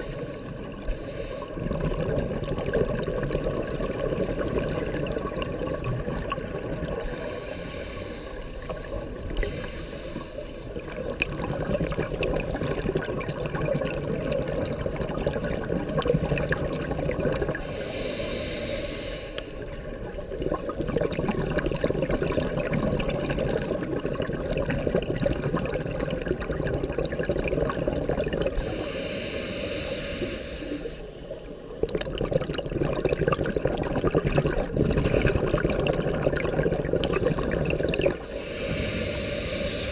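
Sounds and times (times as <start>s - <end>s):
scuba regulator bubbling: 0.0s - 39.9s.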